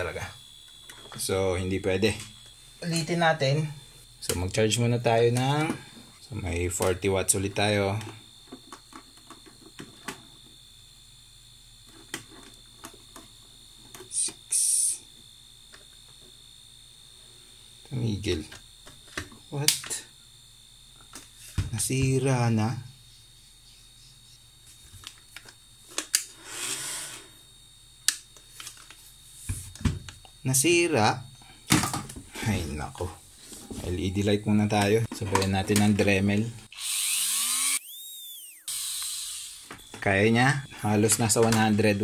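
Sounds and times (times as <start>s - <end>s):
high-pitched electronic whine: 0.0s - 25.6s, 33.8s - 42.0s.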